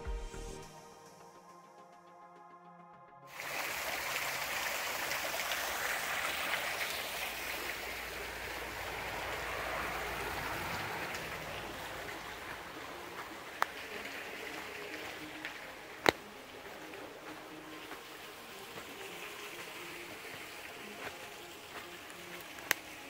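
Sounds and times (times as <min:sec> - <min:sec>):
waterfall splashing over rocks: 0:03.3 - 0:23.0.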